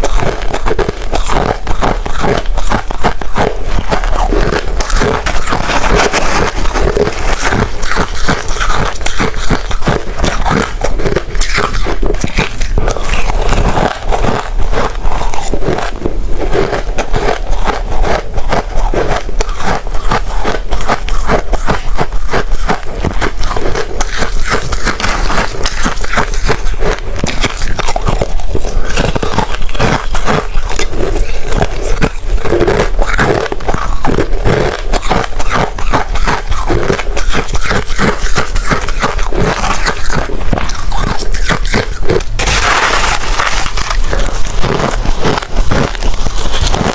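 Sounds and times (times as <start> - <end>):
chewing hard ice: 0.0 - 46.9.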